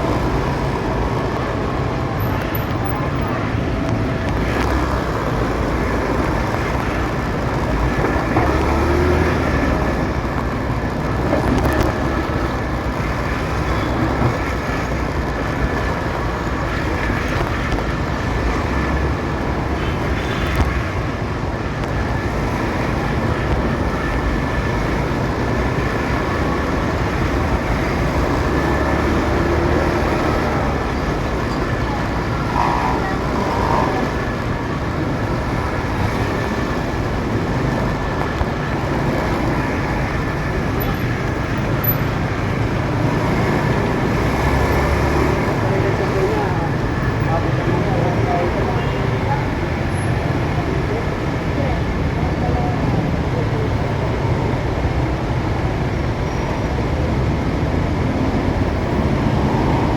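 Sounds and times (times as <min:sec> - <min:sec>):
city traffic: 0:00.0 - 0:59.9.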